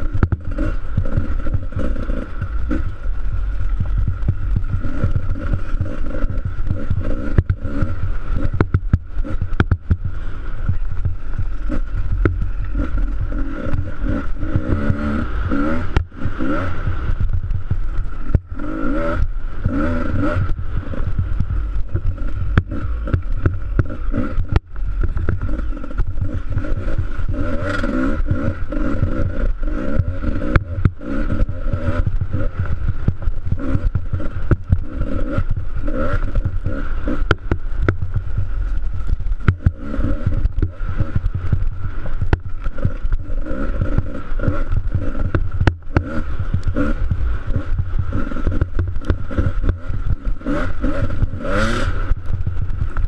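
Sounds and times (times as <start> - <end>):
motorcycle engine revving: 0.0 - 53.0
wind rumble: 0.0 - 53.0.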